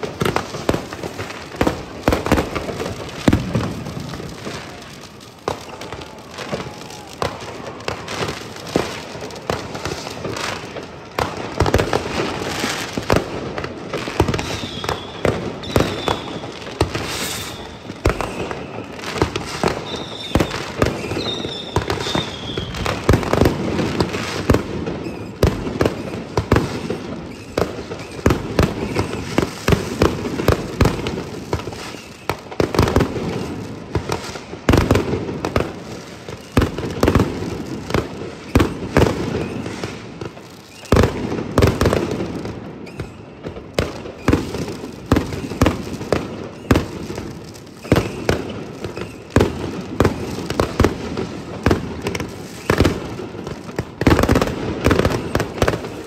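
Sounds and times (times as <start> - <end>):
firework whistles: 0.0 - 56.0
fireworks bangs and crackling: 0.0 - 56.0.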